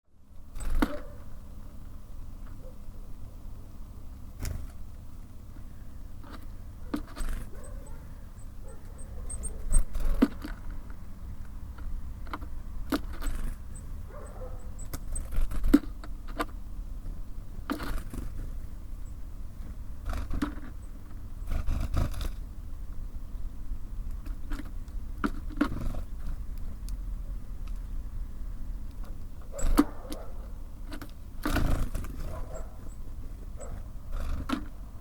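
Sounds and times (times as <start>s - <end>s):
steady low rumble: 0.1s - 35.0s
birds pecking at feeder: 0.3s - 1.3s, 4.1s - 23.0s, 24.0s - 28.0s, 28.8s - 34.9s.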